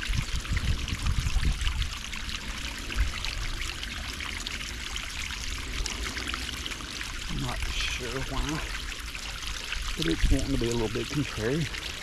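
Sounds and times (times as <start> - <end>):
water streaming and trickling: 0.0 - 12.0.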